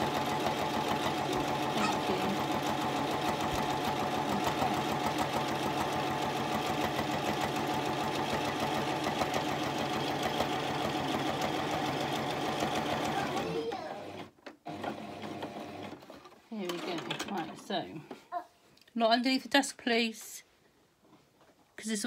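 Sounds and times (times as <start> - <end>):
sewing machine stitching: 0.0 - 17.8.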